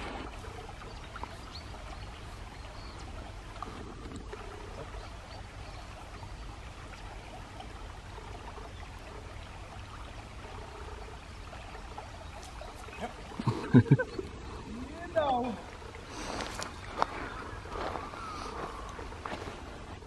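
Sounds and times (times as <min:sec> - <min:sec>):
stream flowing over gravel: 0:00.0 - 0:20.0.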